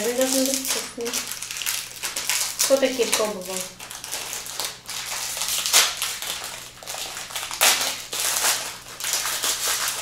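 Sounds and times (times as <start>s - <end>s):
crackers crunching: 0.0s - 10.0s.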